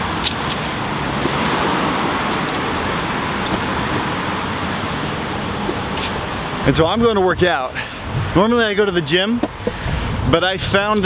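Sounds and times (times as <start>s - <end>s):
rush of passing cars: 0.0s - 11.0s.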